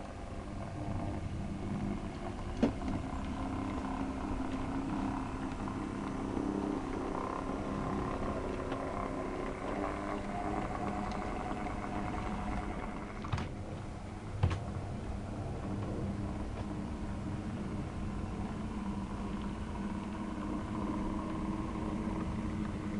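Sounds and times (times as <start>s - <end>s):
model locomotive humming: 0.0s - 22.9s.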